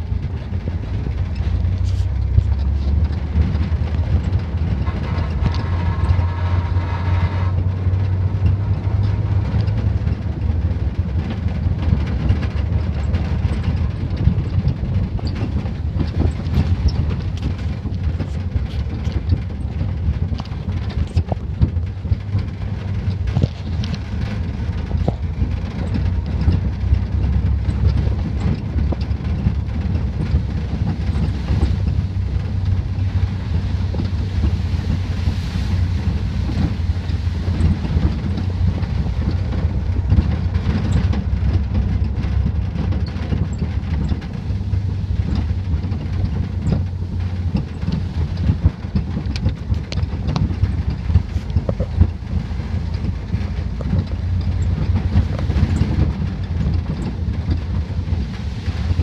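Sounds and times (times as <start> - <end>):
knocks and rattles over bumps: 0.0 - 59.0
truck engine and road rumble: 0.0 - 59.0.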